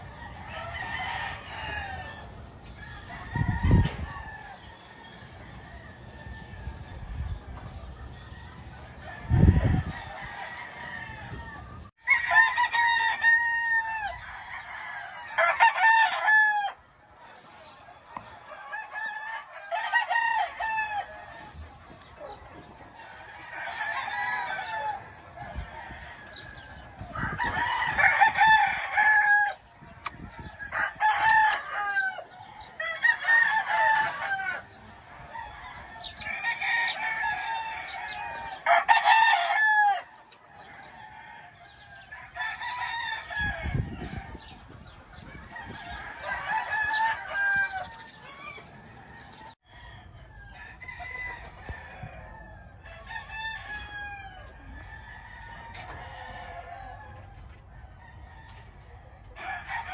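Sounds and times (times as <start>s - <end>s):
roosters crowing: 0.0s - 59.9s.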